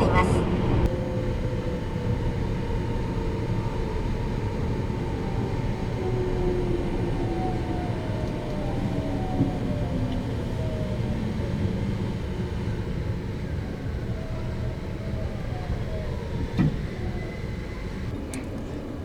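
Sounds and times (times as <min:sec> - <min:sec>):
train motor whine: 0:00.0 - 0:18.8
train running on rails: 0:00.0 - 0:19.0.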